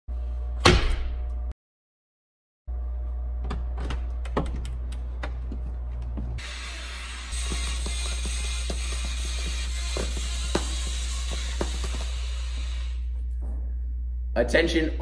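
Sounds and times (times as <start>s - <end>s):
low hum: 2.7s - 15.0s.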